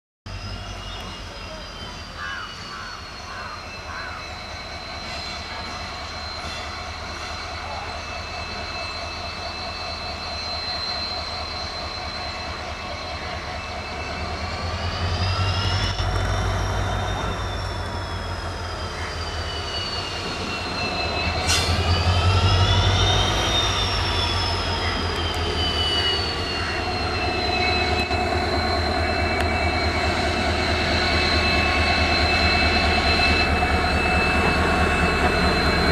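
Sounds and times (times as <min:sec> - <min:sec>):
diesel locomotive passing: 0:00.3 - 0:35.9
high whine: 0:00.3 - 0:35.9.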